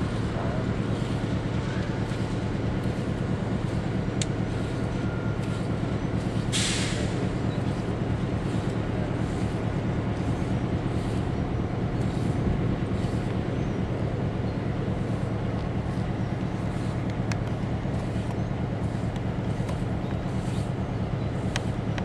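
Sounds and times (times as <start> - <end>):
diesel locomotive engine droning: 0.0 - 22.0.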